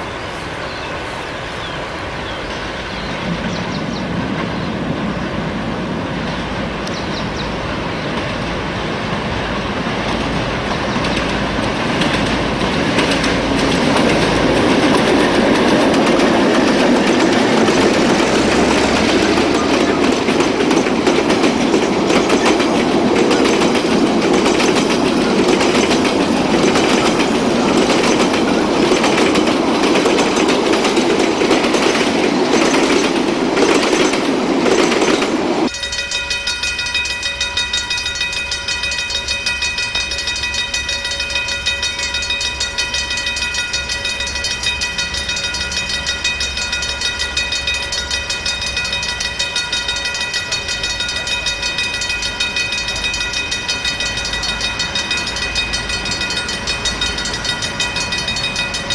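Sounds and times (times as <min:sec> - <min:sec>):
train wheels clicking over rails: 0:02.5 - 0:58.9.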